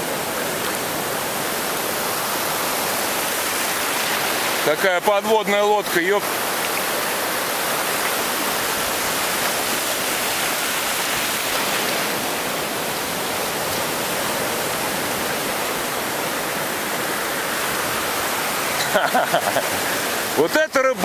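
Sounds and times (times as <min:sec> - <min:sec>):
surf washing over shallows: 0:00.0 - 0:21.0.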